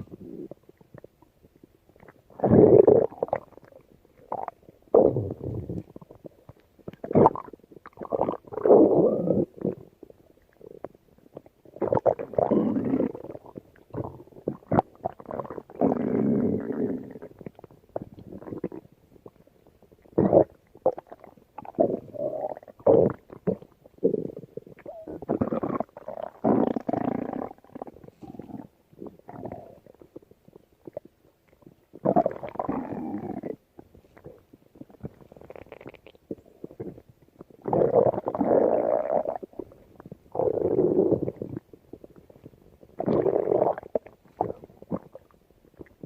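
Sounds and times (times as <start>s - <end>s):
stomach growling: 0.0s - 46.0s.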